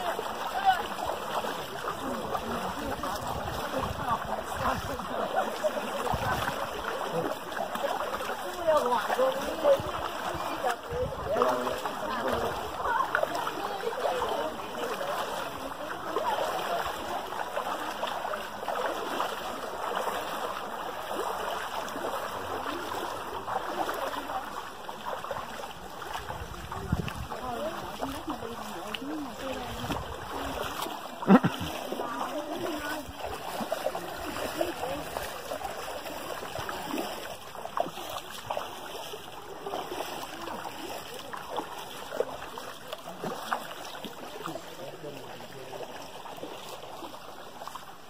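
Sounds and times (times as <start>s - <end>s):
feet wading through stream: 0.0s - 48.0s.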